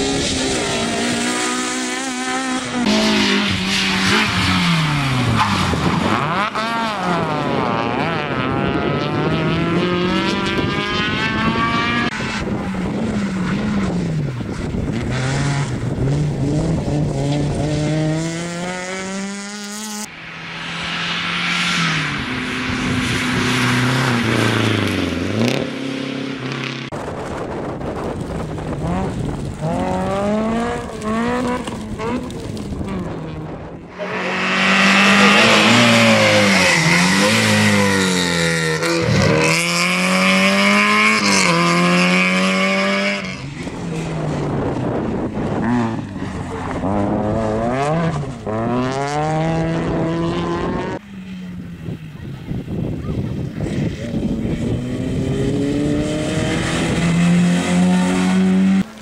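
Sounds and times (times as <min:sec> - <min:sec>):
rally car engines revving high: 0:00.0 - 0:59.0.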